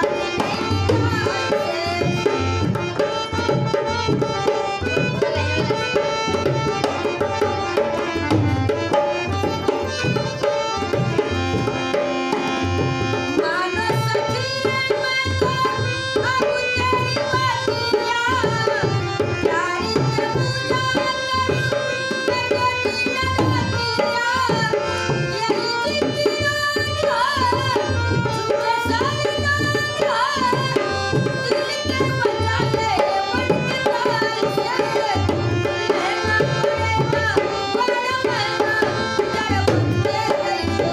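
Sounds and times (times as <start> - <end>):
harmonium held notes: 0.0 - 40.9.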